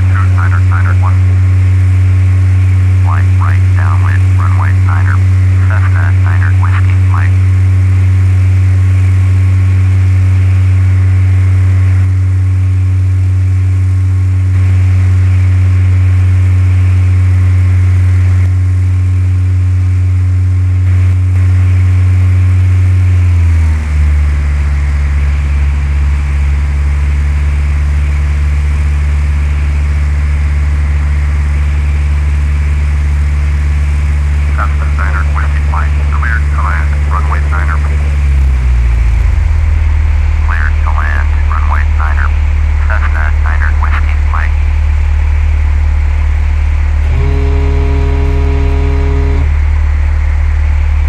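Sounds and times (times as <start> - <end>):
propeller plane engine droning: 0.0 - 51.0.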